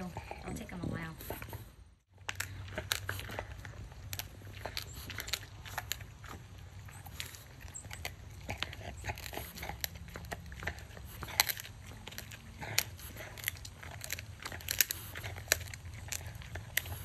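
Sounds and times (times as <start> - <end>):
dog chewing crunchy cartilage: 0.0 - 17.0.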